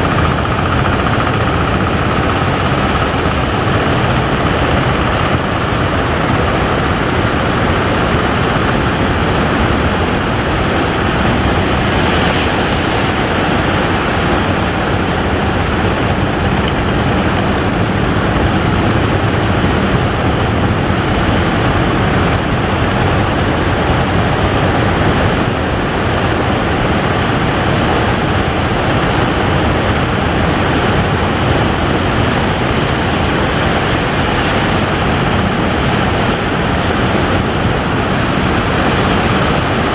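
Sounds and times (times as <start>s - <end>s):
heavy surf breaking waves: 0.0s - 39.9s.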